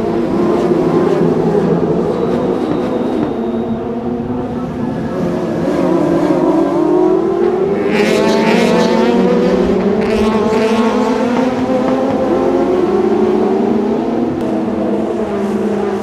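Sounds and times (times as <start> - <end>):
car engines at high revs: 0.0 - 16.0.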